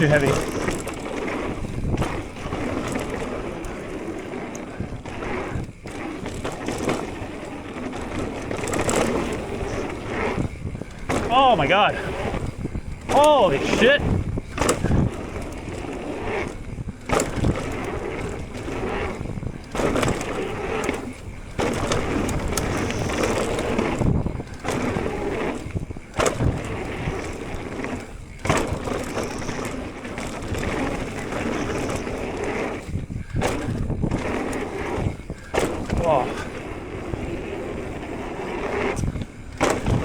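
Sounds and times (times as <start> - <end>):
bike knocking and rattling: 0.0 - 40.0
bike tyres rumbling over dirt: 0.0 - 40.0.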